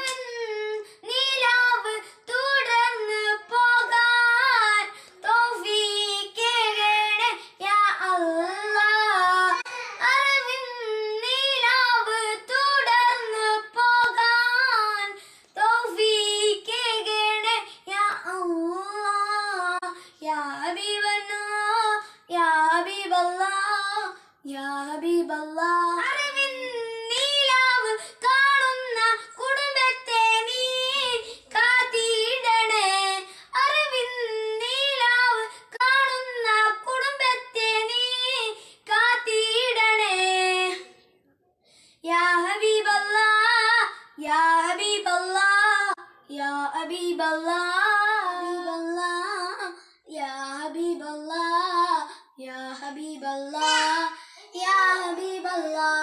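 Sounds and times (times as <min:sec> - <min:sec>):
boy singing unaccompanied: 0:00.0 - 0:41.0, 0:42.0 - 0:56.0.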